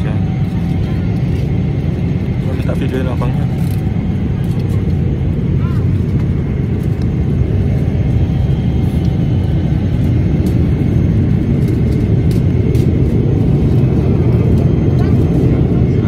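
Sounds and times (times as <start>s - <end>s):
jet airliner cabin roar: 0.0s - 16.0s.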